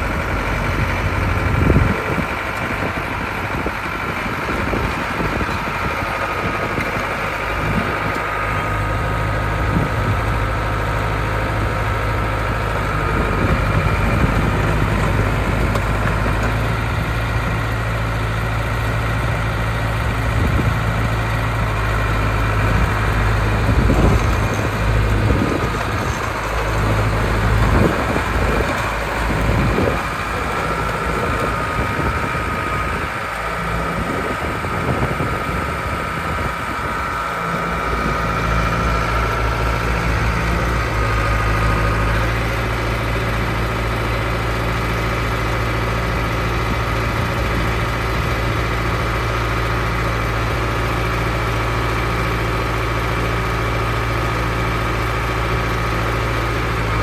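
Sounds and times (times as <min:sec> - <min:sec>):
dozer diesel engine running: 0:00.0 - 0:57.0.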